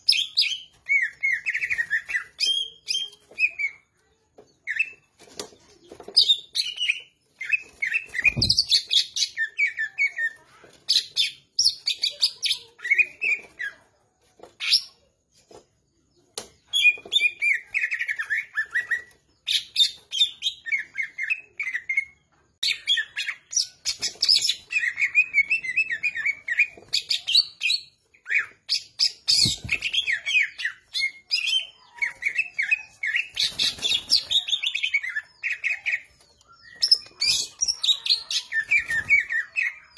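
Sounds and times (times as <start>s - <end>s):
bird chirping and trilling: 0.0s - 15.2s, 16.2s - 39.9s.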